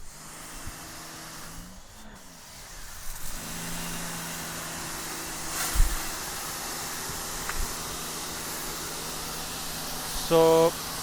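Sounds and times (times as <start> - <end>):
pressure washer motor hum: 0.0 - 11.0
water spray hissing on concrete: 0.0 - 11.0.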